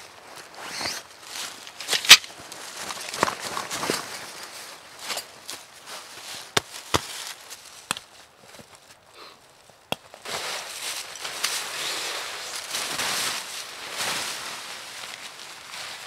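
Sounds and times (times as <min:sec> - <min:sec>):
heavy fabric rustling on leaves: 0:00.0 - 0:16.0.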